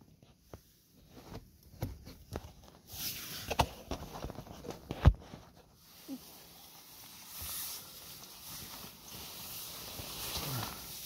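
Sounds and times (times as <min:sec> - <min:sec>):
plastic sheeting and fabric rustling: 0:01.0 - 0:11.0.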